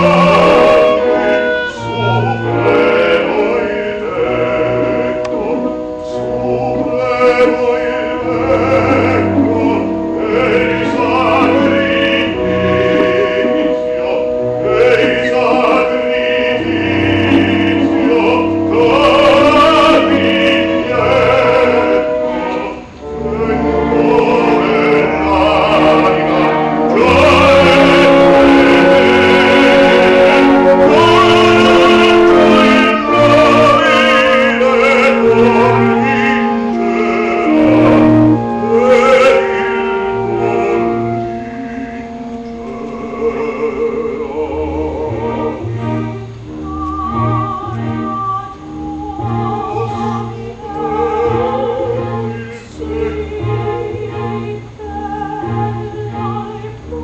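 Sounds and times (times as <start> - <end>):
operatic singing: 0.0 - 57.0
orchestra playing: 0.0 - 57.0.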